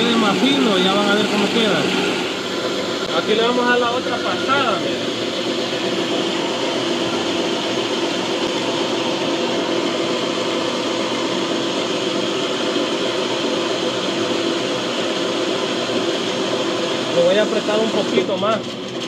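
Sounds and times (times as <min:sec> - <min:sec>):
grinding mill humming and whirring: 0:00.0 - 0:19.0.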